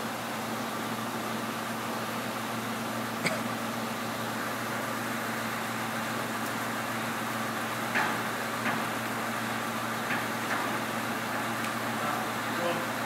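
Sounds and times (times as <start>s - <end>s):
mechanical hum with low drone: 0.0s - 13.0s.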